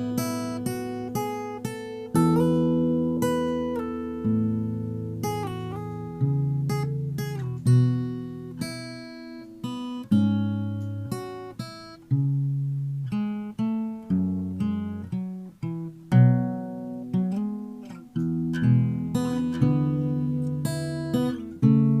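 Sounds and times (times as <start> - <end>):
acoustic guitar plucked and strummed: 0.0 - 22.0.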